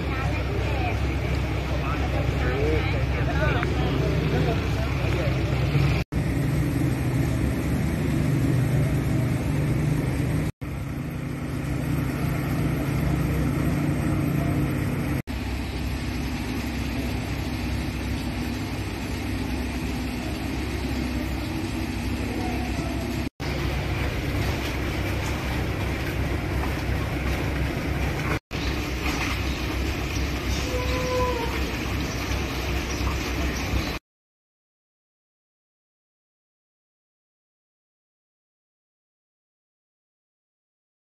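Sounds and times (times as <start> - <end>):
low engine drone: 0.0 - 34.0
street noise: 0.0 - 34.0.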